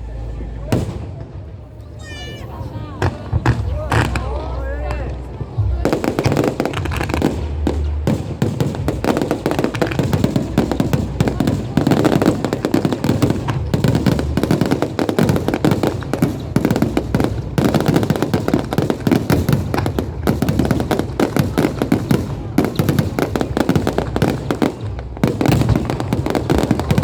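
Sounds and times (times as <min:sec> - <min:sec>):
fireworks bangs and crackles: 0:00.6 - 0:27.0.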